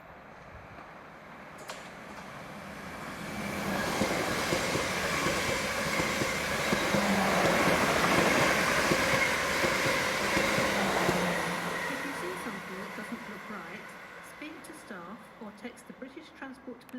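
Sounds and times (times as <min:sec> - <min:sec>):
train wheels rumbling on rails: 0:00.2 - 0:16.3.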